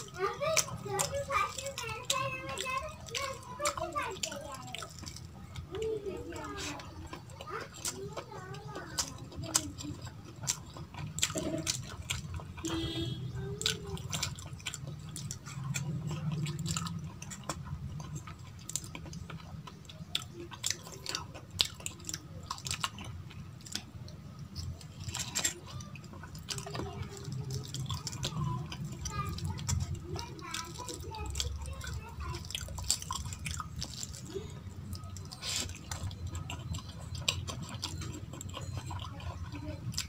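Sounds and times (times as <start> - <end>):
chewing rice: 0.0 - 40.0.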